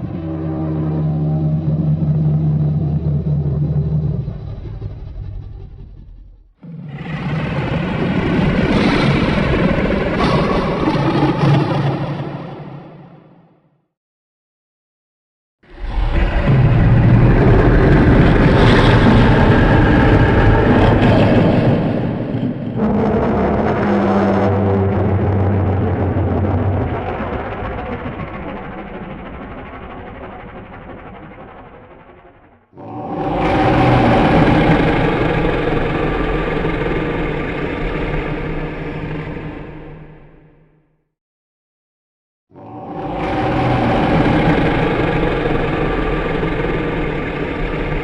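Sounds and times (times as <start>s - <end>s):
low rumble: 0.0s - 13.3s, 15.7s - 40.6s, 42.6s - 48.0s
deep monster roar: 0.0s - 13.5s, 15.6s - 29.0s, 32.8s - 40.8s, 42.5s - 48.0s.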